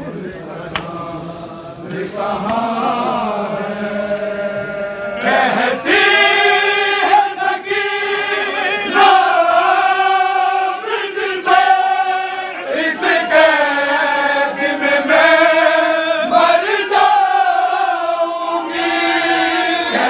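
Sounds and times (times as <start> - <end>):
men chanting in unison: 0.0 - 20.0.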